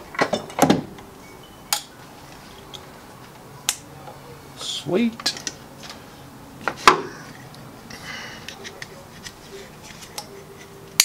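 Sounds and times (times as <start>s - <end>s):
wires rustling: 0.0s - 11.0s.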